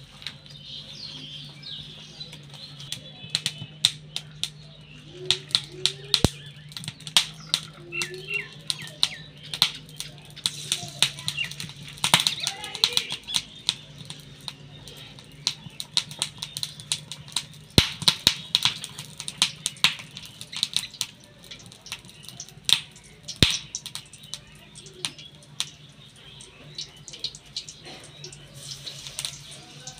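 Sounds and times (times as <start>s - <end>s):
battered slices frying in oil: 0.0s - 29.9s
sharp crackling pops: 0.0s - 29.9s.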